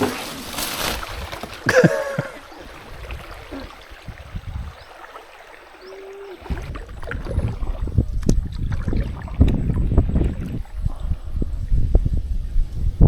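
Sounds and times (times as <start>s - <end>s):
paddle swishing water: 0.0s - 12.1s.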